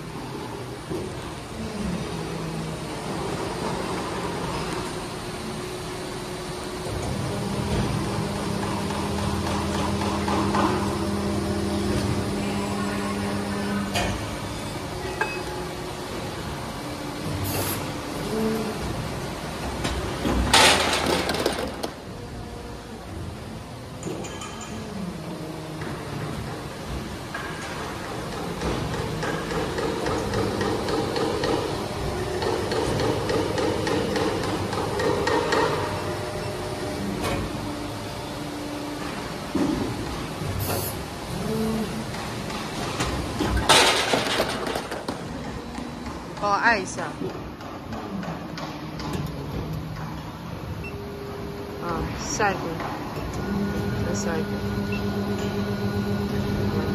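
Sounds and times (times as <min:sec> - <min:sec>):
machine humming: 0:00.0 - 0:24.0, 0:24.7 - 0:56.9.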